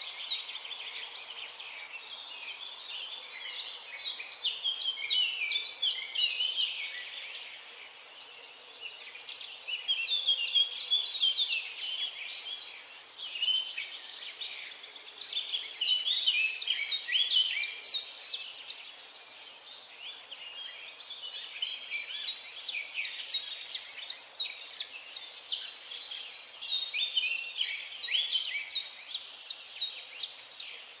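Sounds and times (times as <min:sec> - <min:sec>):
birds singing: 0:00.0 - 0:31.0
faint steady hiss: 0:00.0 - 0:31.0.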